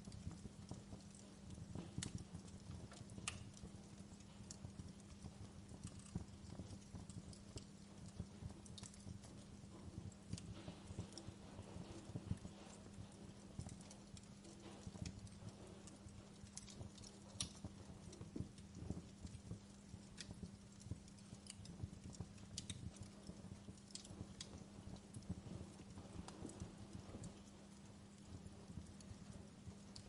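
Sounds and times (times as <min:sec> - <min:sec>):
steady low hum: 0:00.0 - 0:30.0
wood fire crackling: 0:00.0 - 0:30.0.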